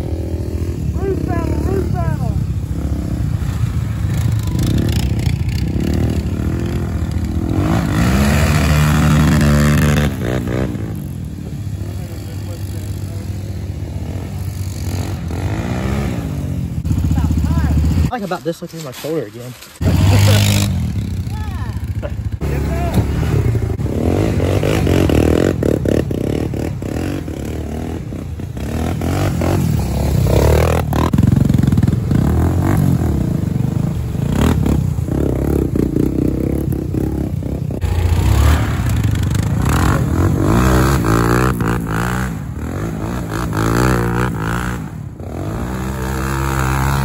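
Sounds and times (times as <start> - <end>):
atv engine revving: 0.0 - 18.1, 19.8 - 47.0.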